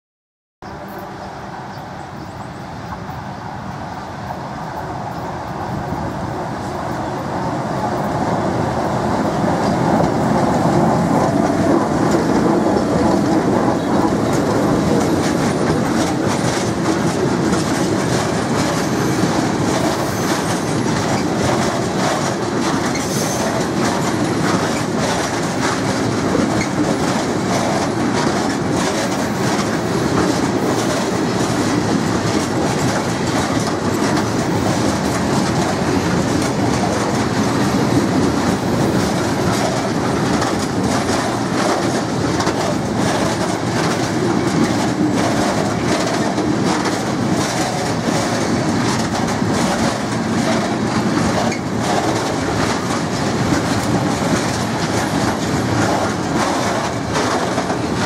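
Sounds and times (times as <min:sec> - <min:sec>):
freight train rumbling past: 0:00.6 - 0:58.0
wheels clicking over rail joints: 0:07.7 - 0:58.0.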